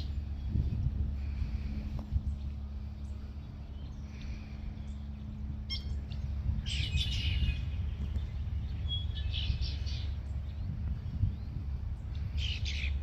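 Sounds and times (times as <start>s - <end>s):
blackbirds singing: 0.0s - 13.0s
steady low rumble: 0.0s - 13.0s.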